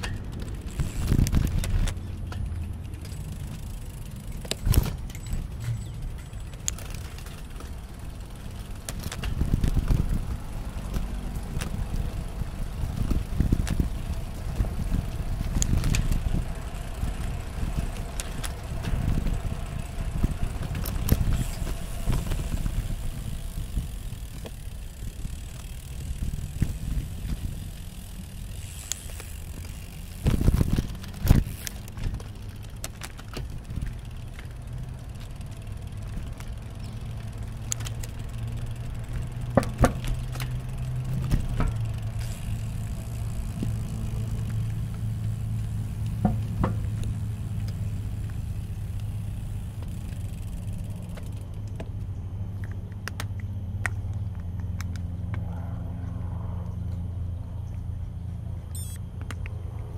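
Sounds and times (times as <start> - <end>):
bicycle rattling knocks: 0.0 - 52.1
bicycle tyre and wind rumble: 0.0 - 59.9
steady low hum: 0.0 - 59.9.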